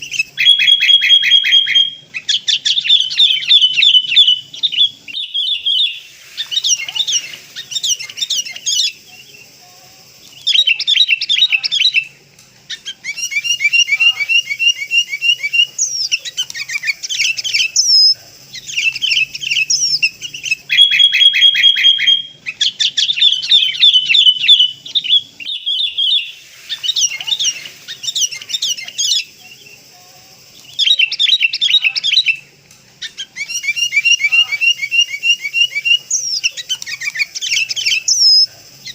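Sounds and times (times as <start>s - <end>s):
birds chirping and whistling: 0.0s - 9.5s, 10.2s - 38.9s.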